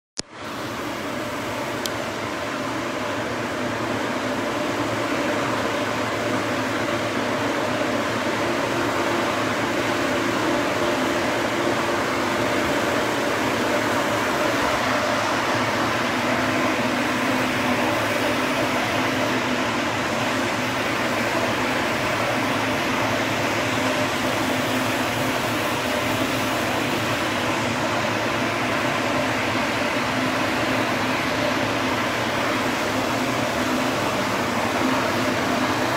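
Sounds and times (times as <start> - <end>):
large fan rushing air: 0.2 - 35.9.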